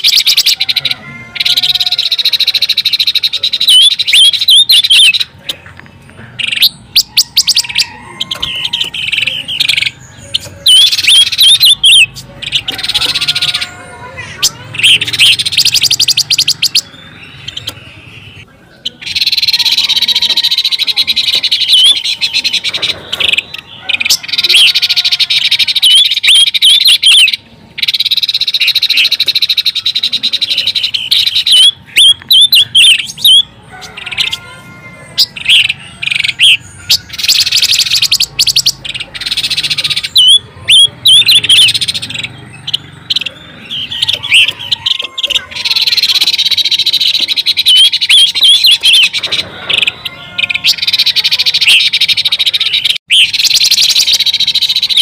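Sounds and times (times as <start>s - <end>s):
bird chirping and trilling: 0.0s - 55.0s.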